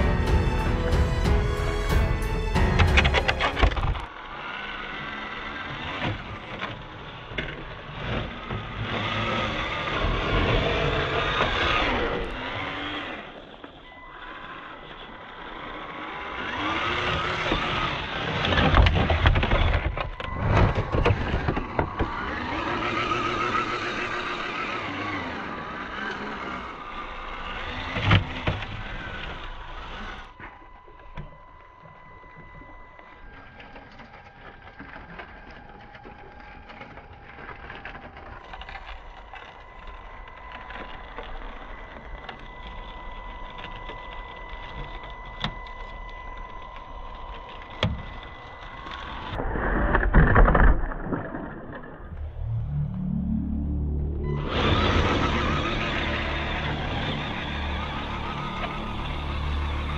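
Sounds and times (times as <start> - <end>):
small electric motor whining: 3.8 - 49.4, 52.1 - 59.9.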